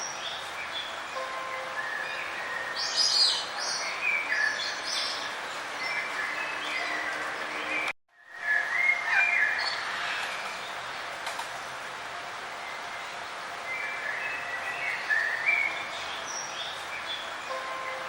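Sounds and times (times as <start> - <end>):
outdoor background hiss: 0.0 - 18.0
songbirds chirping: 0.0 - 18.0.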